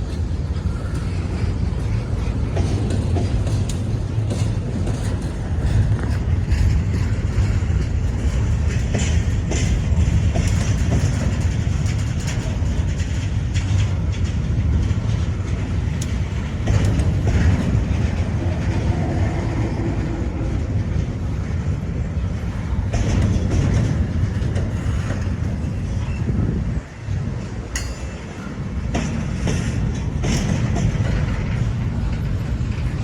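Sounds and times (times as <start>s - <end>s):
train rumble: 0.0s - 33.0s
train wheels clattering over rails: 0.0s - 33.0s.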